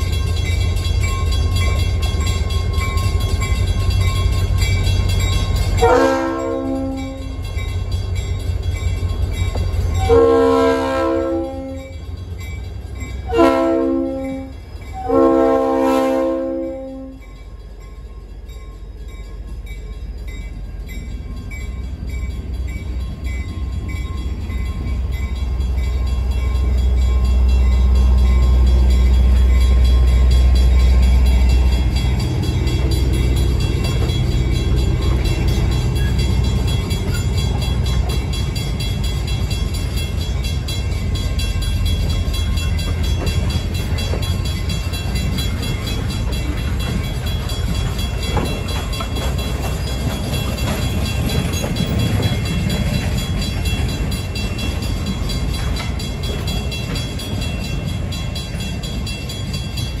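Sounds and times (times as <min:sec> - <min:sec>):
wheels rumbling on rail: 0:00.0 - 1:00.0.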